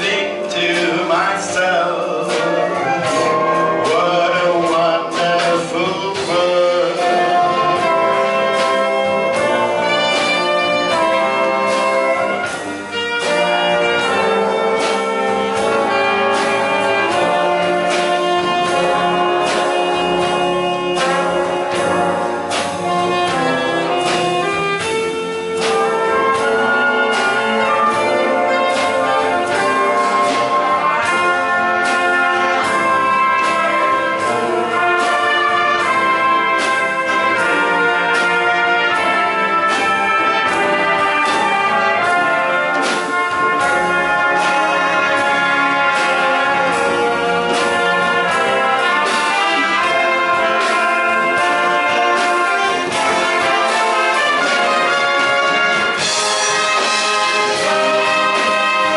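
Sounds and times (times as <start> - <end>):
wind band playing: 0.0 - 58.9.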